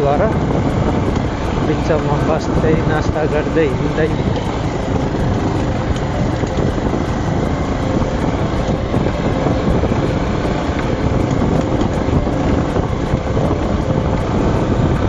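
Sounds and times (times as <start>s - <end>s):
motorcycle running: 0.0s - 15.0s
wind on microphone: 0.0s - 15.0s.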